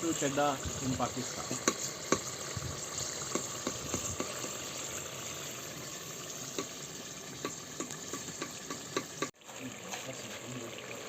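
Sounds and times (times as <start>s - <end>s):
chicken sizzling in oil: 0.0s - 11.0s
oil popping and crackling: 0.0s - 11.0s.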